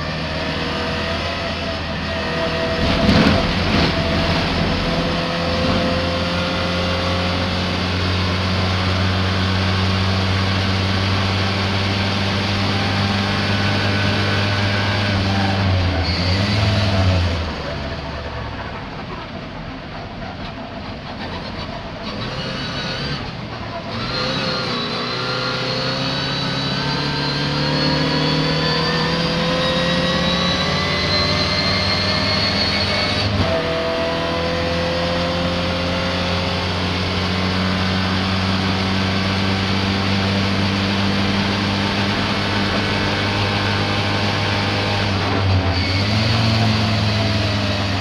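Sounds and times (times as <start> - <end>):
misfiring racing car engine: 0.0 - 48.0.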